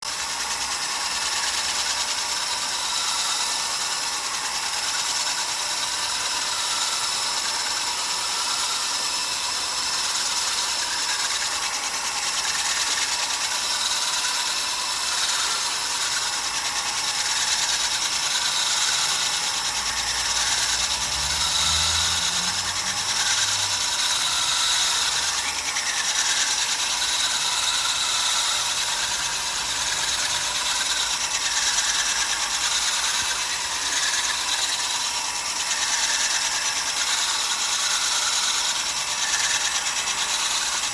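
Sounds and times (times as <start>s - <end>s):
polisher grinding stone: 0.0s - 40.9s.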